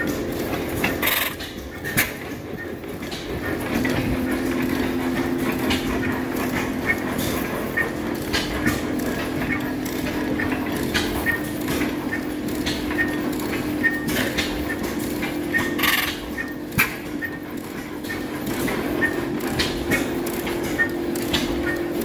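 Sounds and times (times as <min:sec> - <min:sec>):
stationary gas engines running: 0:00.0 - 0:22.0.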